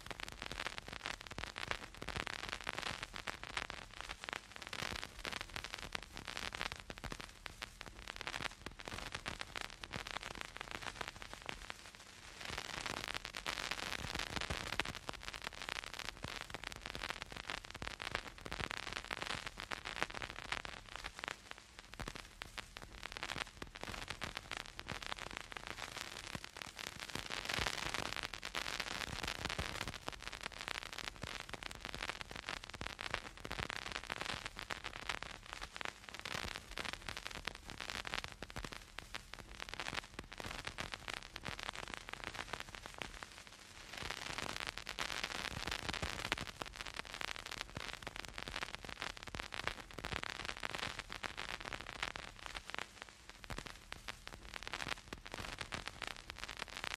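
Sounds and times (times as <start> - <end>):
vinyl crackle and pops: 0.0 - 56.9
vinyl record hiss: 0.0 - 56.9.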